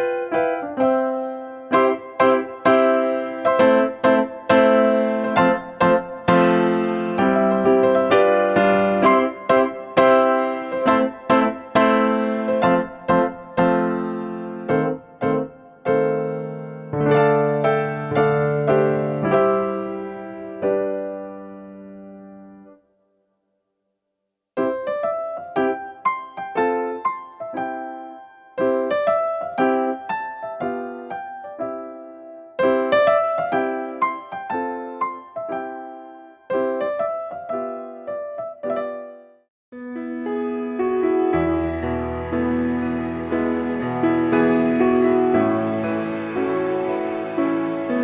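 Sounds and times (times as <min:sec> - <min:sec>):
electric piano chords: 0:00.0 - 0:22.8, 0:24.6 - 0:48.0
gentle keyboard melody: 0:00.0 - 0:22.9, 0:24.6 - 0:48.0.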